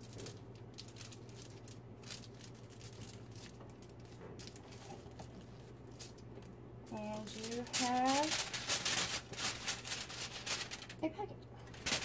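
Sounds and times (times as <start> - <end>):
aluminium foil crinkling: 0.0 - 12.0
steady low hum: 0.0 - 12.0.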